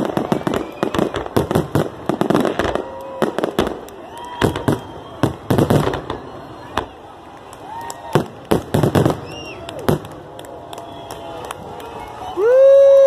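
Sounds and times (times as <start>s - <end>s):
fireworks bangs and crackles: 0.0s - 12.3s.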